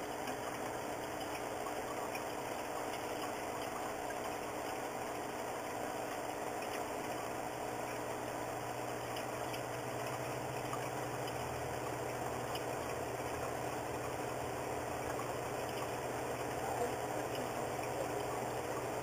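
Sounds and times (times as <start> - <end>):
faint ticks: 0.0 - 19.0
low machine hum: 0.0 - 19.0.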